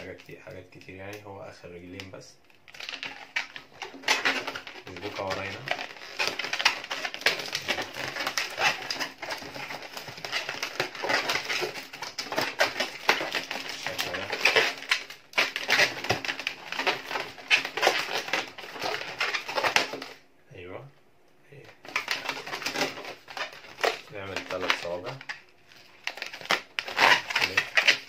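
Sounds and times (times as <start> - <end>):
balloons squeaking as twisted: 0.0 - 1.2, 1.9 - 20.2, 21.6 - 28.0.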